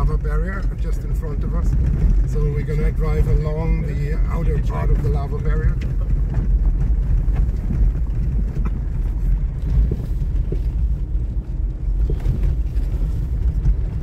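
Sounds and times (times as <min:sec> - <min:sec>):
knocks and rattles: 0:00.0 - 0:14.0
tyres on gravel: 0:00.0 - 0:14.0
vehicle engine rumble: 0:00.0 - 0:14.0.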